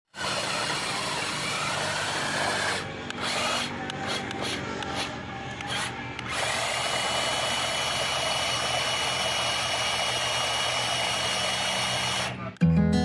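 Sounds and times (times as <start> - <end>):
small power tool whining: 0.1 - 12.4.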